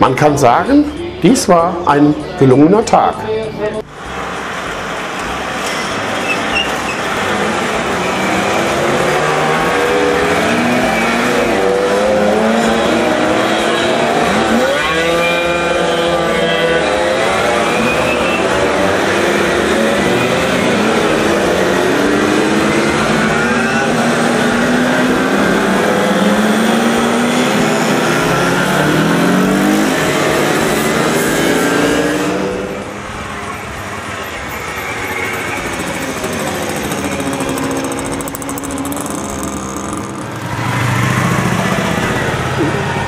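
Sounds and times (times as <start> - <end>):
two-stroke mopeds buzzing past: 5.9 - 43.0.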